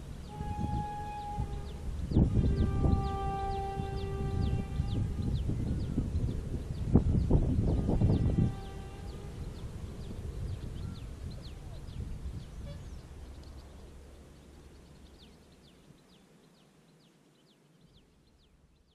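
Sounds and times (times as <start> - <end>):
birds chirping: 0.2 - 18.9.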